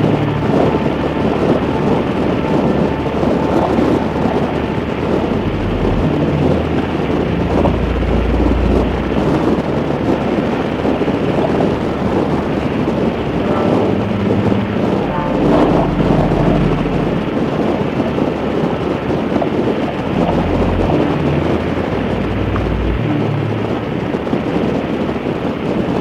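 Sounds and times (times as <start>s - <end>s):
motorcycle engine rumble: 0.0s - 25.3s
wind noise on microphone: 0.0s - 26.0s.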